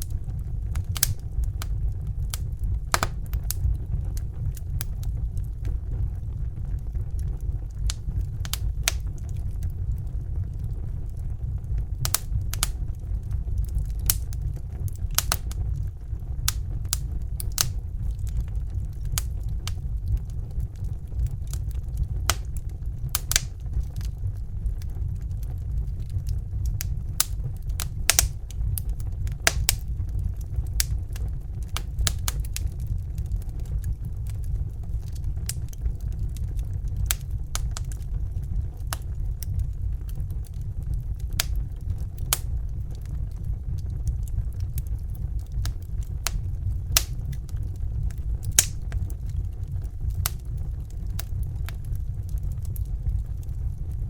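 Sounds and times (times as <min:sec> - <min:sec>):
fire crackling and popping: 0:00.0 - 0:54.0
steady low rumble: 0:00.0 - 0:54.0.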